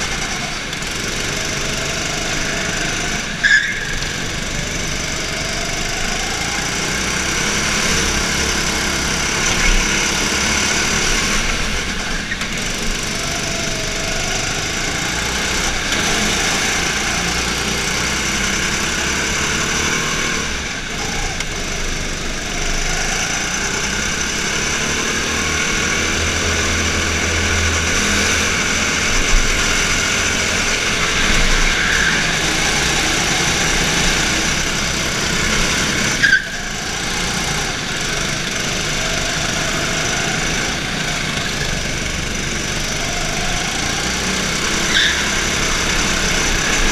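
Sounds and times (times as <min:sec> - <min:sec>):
go-kart engine revving: 0:00.0 - 0:46.9.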